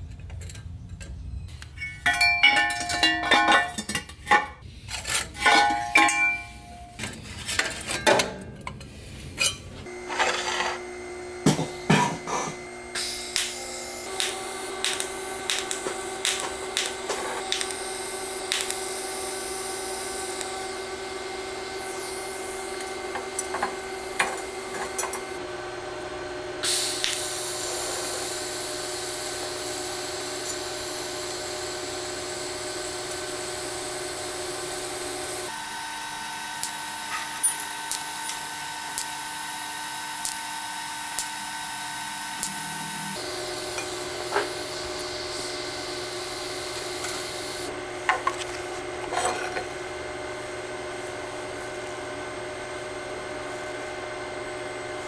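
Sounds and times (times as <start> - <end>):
welding arc buzzing with hiss: 8.9 - 55.0.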